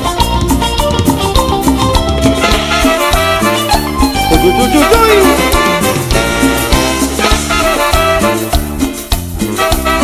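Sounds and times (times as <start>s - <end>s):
live band playing cumbia: 0.0s - 10.0s.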